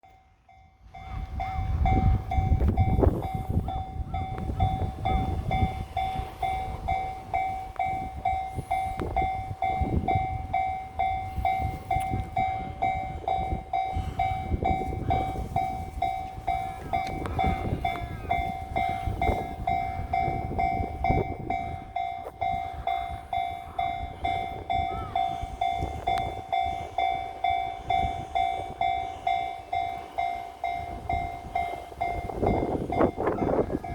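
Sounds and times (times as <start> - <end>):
level crossing bell ringing: 0.1 - 33.9.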